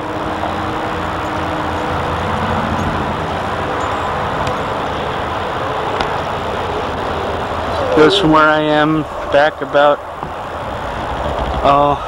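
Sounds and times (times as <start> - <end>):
highway traffic: 0.0 - 12.0.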